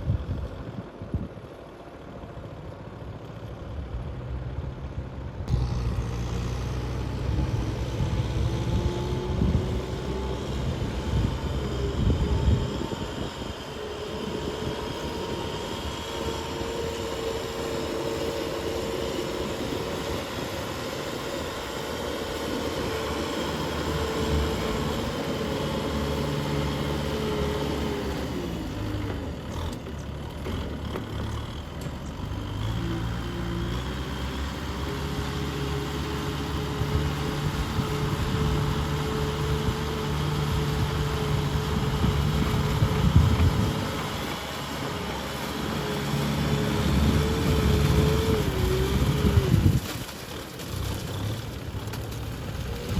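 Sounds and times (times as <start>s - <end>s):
tractor engine under load: 0.0s - 52.9s.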